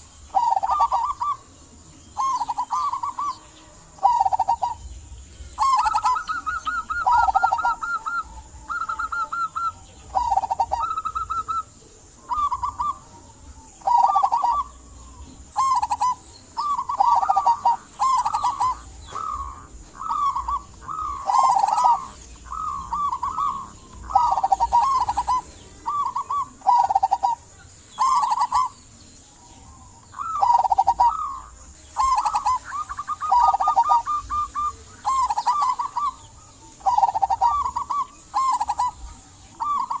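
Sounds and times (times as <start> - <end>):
dove cooing: 0.0 - 40.0.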